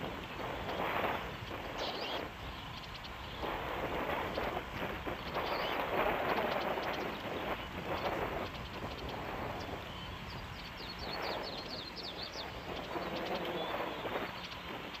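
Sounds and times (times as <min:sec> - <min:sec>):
low outdoor rumble: 0:00.0 - 0:15.0
small bird chirping: 0:00.3 - 0:15.0.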